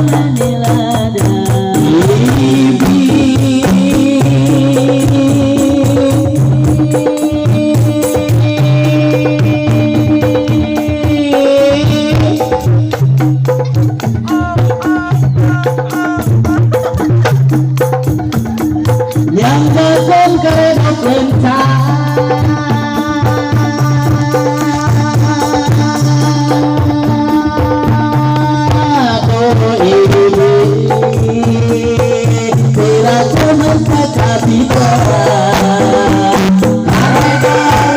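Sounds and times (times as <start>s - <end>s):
frame drum ensemble playing: 0.0s - 37.9s.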